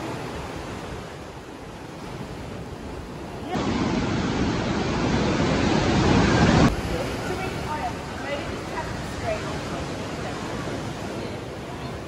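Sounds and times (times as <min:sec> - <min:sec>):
sea surf washing onto beach: 0:00.0 - 0:12.0
waves breaking: 0:00.0 - 0:12.0.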